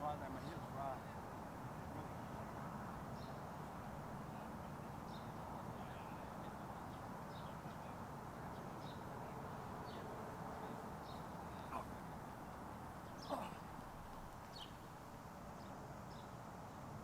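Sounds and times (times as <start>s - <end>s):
outdoor background hum: 0.0s - 17.0s.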